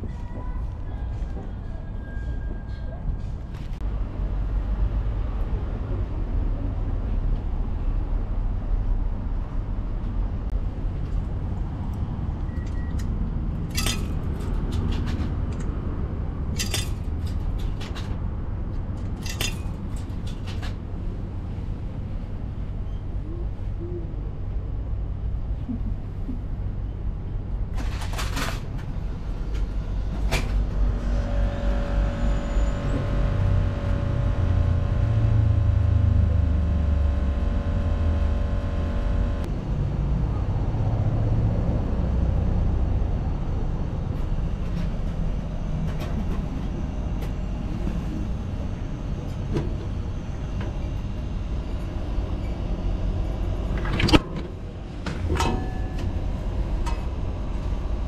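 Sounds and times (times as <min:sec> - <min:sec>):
vending machine humming rumble: 0:00.0 - 0:58.0.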